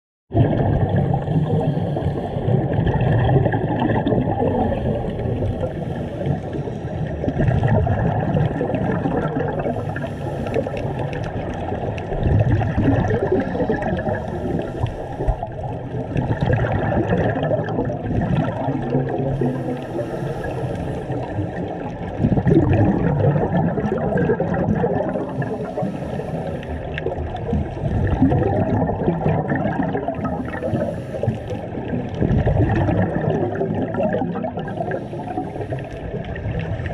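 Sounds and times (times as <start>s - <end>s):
muffled underwater rushing: 0.3s - 36.9s
scuba exhaust bubbles: 0.3s - 36.9s.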